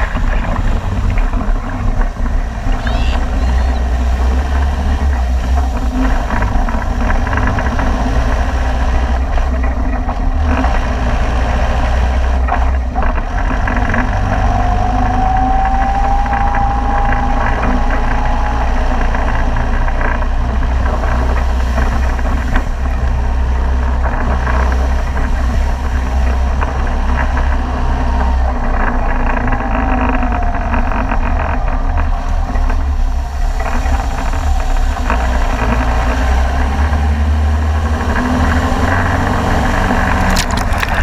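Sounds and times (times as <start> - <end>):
jeep engine running: 0.0 - 41.0
water spraying from wheels: 0.0 - 41.0.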